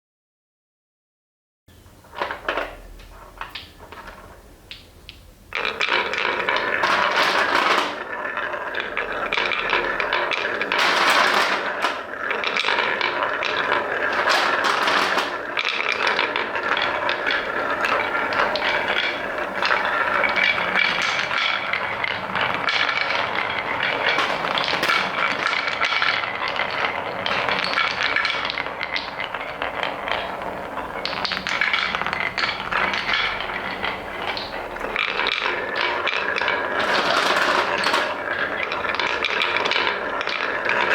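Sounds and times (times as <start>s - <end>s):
wooden balls clattering down marble run: 2.0s - 40.9s.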